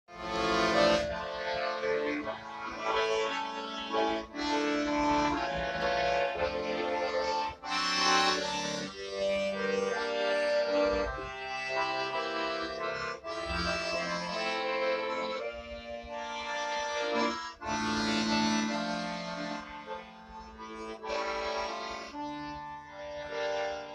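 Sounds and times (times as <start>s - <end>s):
accordion playing chords and melody: 0.0s - 23.9s.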